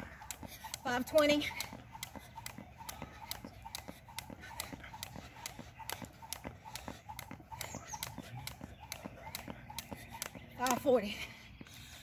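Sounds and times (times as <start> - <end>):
jump rope slapping asphalt: 0.0 - 12.0.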